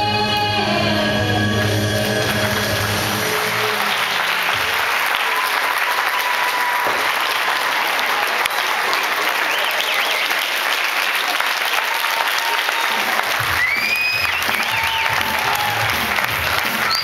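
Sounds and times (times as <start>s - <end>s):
audience applauding: 1.6s - 17.0s.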